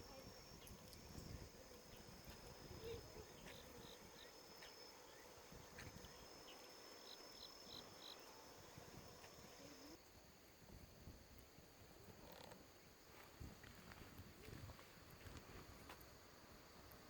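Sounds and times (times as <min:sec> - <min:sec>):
insect trill: 0:00.0 - 0:13.7
insect chirps: 0:00.0 - 0:17.0.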